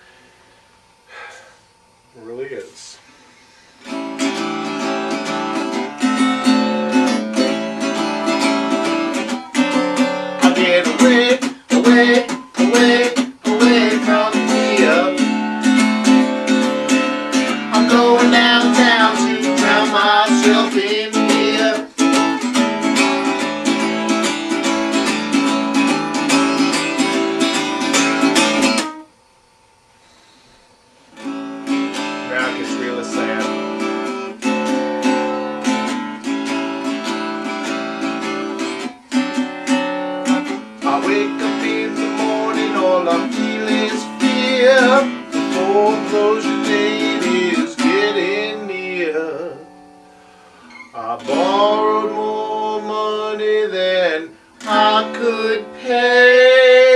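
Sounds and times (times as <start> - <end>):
acoustic guitar strumming blues: 3.6 - 29.1, 31.1 - 56.9.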